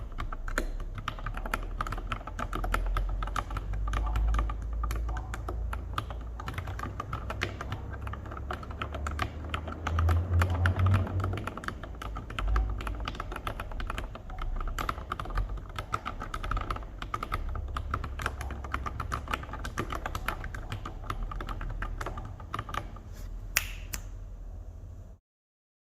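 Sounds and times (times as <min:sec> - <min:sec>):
typing on mechanical keyboard: 0:00.0 - 0:23.1.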